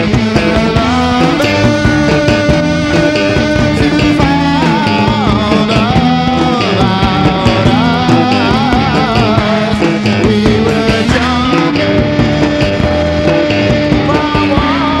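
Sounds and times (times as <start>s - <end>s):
electric guitar holding long notes: 0.0s - 15.0s
steady drum beat: 0.0s - 15.0s.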